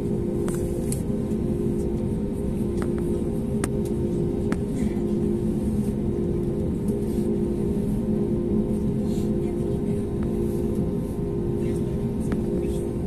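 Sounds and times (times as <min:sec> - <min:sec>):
constant drone tone: 0:00.0 - 0:13.0
low cabin hum: 0:00.0 - 0:13.0.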